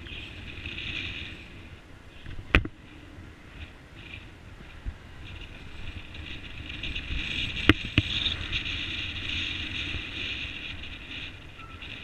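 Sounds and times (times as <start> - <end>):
bicycle riding rumble and hiss: 0.0 - 12.0.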